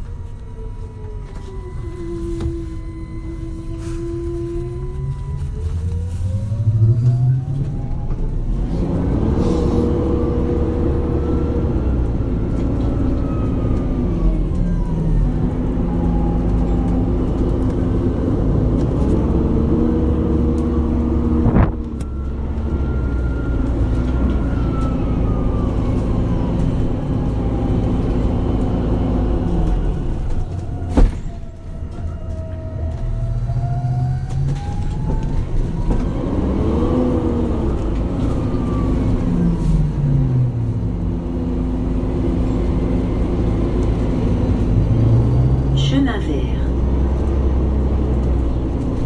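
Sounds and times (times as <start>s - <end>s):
bus engine drone: 0.0s - 49.0s.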